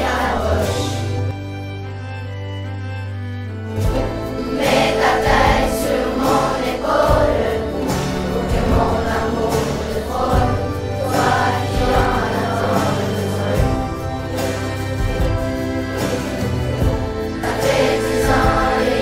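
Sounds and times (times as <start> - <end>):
group of voices singing: 0.0 - 1.3, 4.4 - 19.0
ukulele ensemble playing: 0.0 - 2.4, 3.4 - 19.0
bass line: 0.0 - 19.0.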